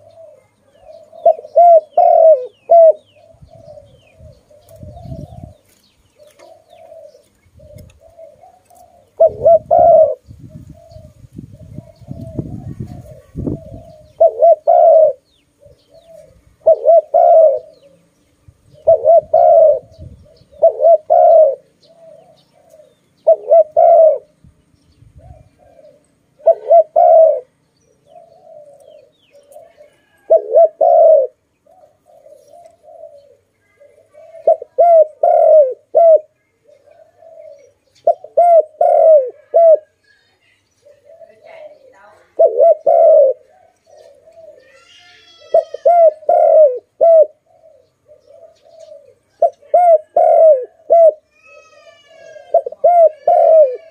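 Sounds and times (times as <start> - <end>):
dove cooing: 0.0 - 24.4, 25.2 - 53.9.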